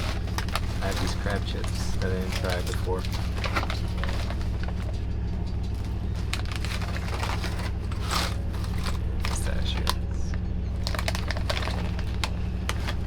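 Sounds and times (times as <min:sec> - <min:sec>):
snack packaging crackling: 0:00.0 - 0:05.0, 0:05.7 - 0:13.0
train rumbling: 0:00.0 - 0:13.0.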